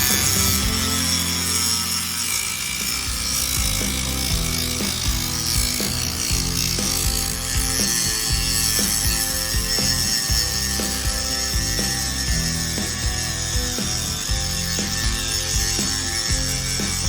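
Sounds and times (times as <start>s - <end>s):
angle grinder grinding: 0.0s - 17.0s
background music with a beat: 0.0s - 17.0s.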